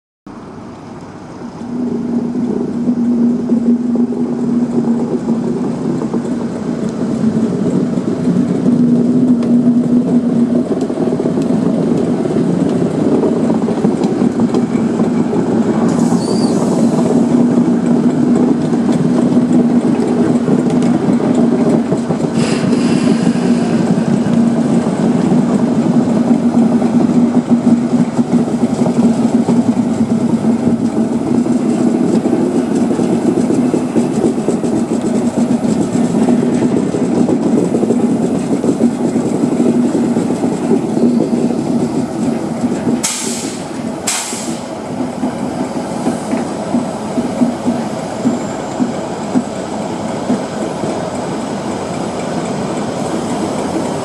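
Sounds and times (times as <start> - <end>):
diesel locomotive engine drone: 0.3 - 54.0.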